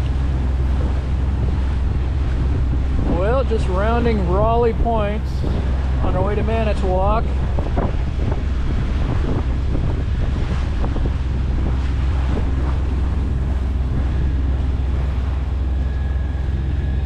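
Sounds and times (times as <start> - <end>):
diesel engine droning: 0.0 - 17.0
water rushing along hull: 0.0 - 17.0
wind buffeting microphone: 0.0 - 17.0.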